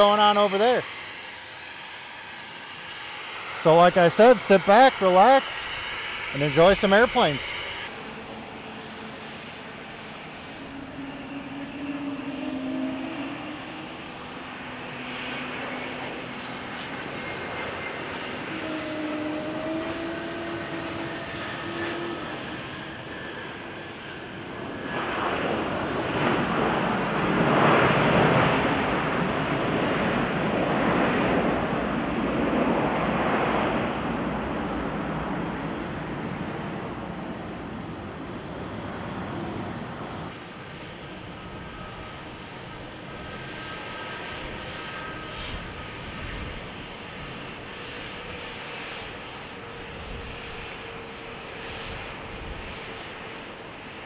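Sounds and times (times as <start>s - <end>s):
jet engine hum with whine: 0.0s - 54.0s
jet engines roaring: 0.0s - 54.0s.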